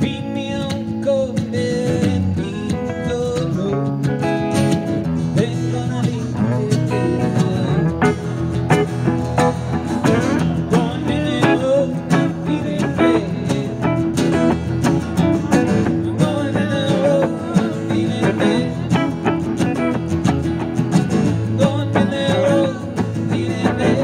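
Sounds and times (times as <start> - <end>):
acoustic guitars strummed: 0.0 - 24.0.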